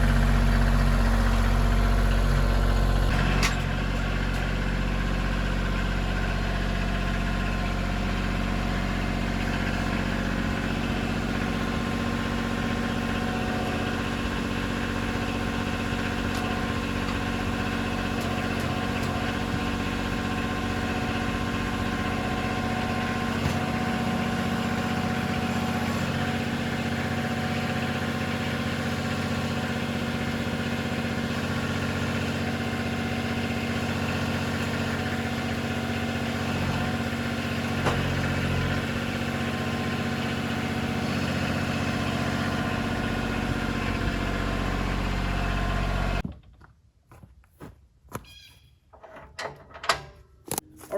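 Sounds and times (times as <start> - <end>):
tractor diesel engine idling: 0.0 - 46.2.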